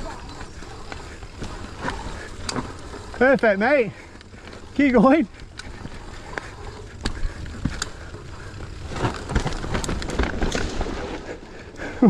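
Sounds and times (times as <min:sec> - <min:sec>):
bike clicks and rattles: 0:00.0 - 0:12.0
bike tyres on dirt and rock: 0:00.0 - 0:12.0.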